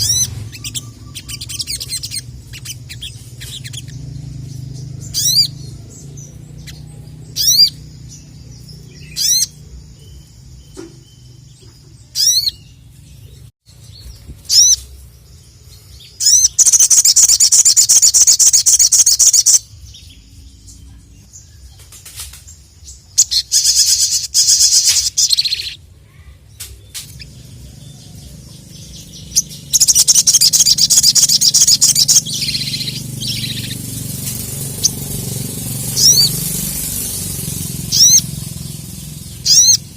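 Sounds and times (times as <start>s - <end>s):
bird chattering song: 0.0s - 39.9s
sunbird chirping: 0.0s - 39.9s.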